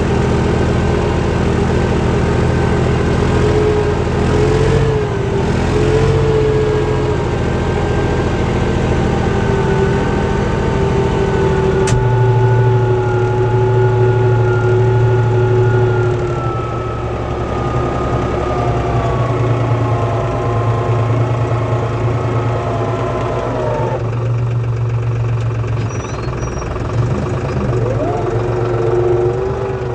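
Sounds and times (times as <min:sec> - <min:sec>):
engine whine: 0:00.0 - 0:29.9
tractor diesel engine running: 0:00.0 - 0:29.9.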